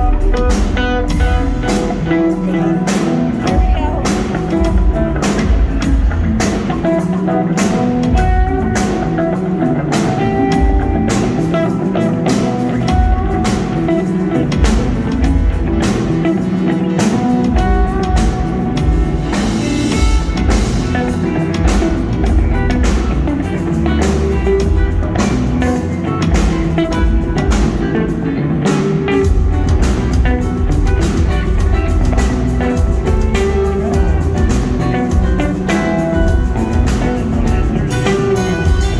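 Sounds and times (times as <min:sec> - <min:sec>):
drum kit beat: 0:00.0 - 0:38.9
electric guitar: 0:00.0 - 0:38.9
rock band playing live: 0:00.0 - 0:38.9.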